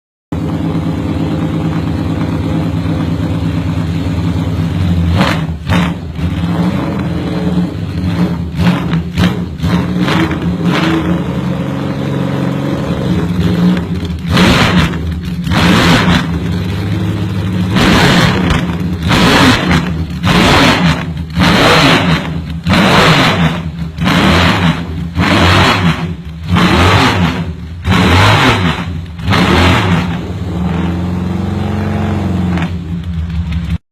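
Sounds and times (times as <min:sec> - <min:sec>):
motorcycle engine revving: 0:00.4 - 0:33.8.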